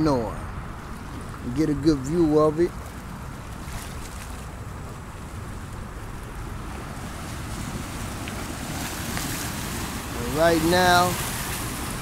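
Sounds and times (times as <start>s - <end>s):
river water flowing: 0.0s - 12.0s
wind rumbling on microphone: 0.0s - 12.0s.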